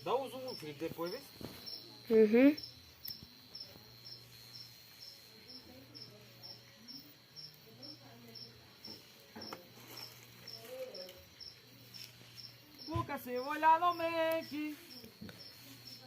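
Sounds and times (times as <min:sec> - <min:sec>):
cricket chirping: 0:00.0 - 0:16.0
faint distant voices: 0:00.0 - 0:16.0.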